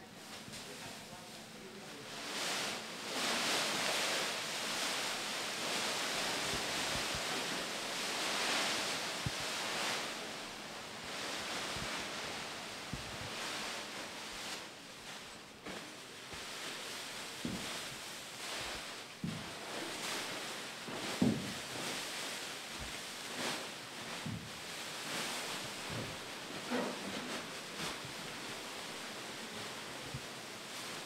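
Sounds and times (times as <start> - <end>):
plastic bags rustling and crinkling: 0.0 - 31.0.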